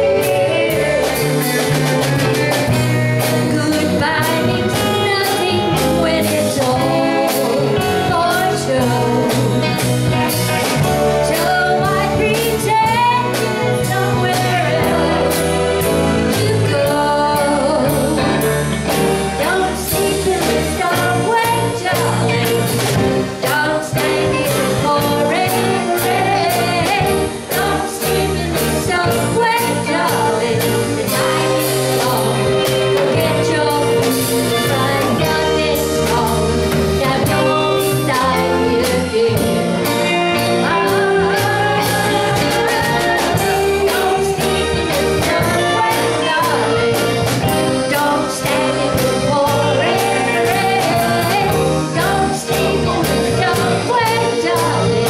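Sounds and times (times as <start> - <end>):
woman singing into microphone: 0.0 - 1.6, 3.2 - 9.9, 10.7 - 18.6, 19.2 - 55.0
drum kit beat: 0.0 - 55.0
electric guitar: 0.0 - 55.0.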